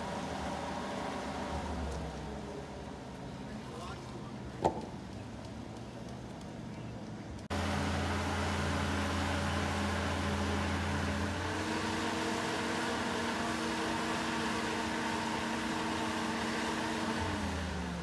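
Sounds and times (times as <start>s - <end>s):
engine and hydraulics humming: 0.0s - 18.0s.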